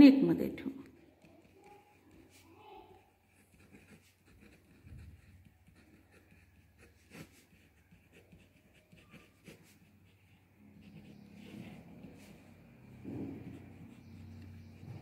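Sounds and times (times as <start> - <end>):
pen scratching on paper: 0.9 - 15.0.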